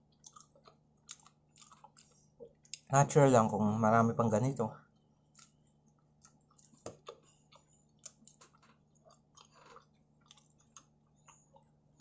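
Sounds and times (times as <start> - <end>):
chewing pizza: 0.0 - 2.9, 4.9 - 12.0.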